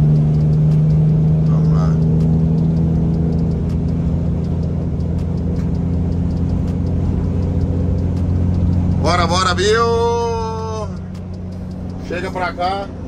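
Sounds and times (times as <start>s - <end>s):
road noise: 0.0s - 13.0s
truck diesel engine droning: 0.0s - 13.0s.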